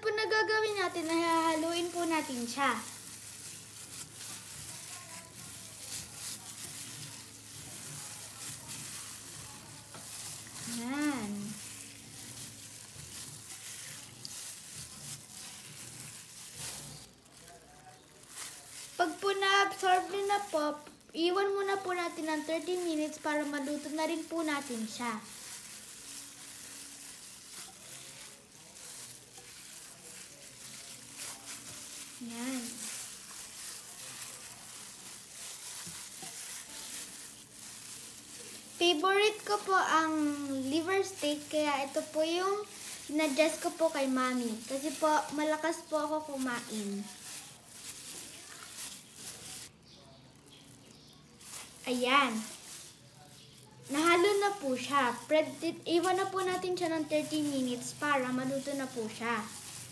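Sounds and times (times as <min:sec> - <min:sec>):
small crackles: 0:00.4 - 0:59.9
wet squishing and sloshing: 0:00.8 - 0:59.9.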